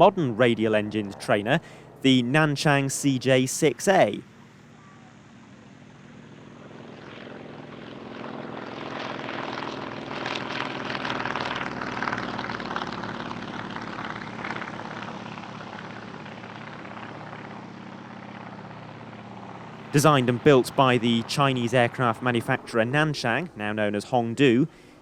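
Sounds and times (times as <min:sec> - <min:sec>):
propeller plane passing overhead: 0:00.0 - 0:25.0.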